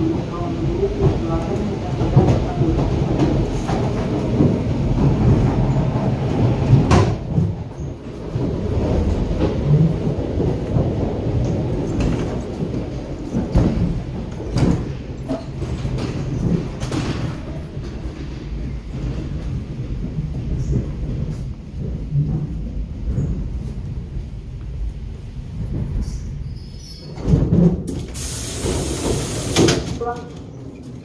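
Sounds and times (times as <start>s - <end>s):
electric train rumbling: 0.0s - 31.0s.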